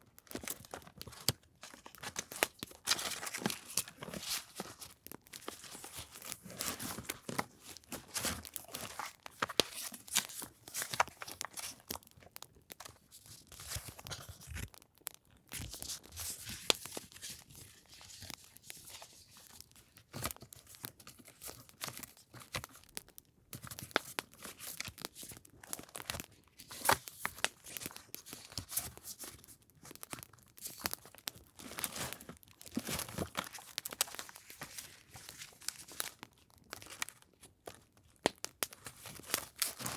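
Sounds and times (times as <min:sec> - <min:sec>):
paper and packaging crinkling: 0:00.0 - 0:39.9.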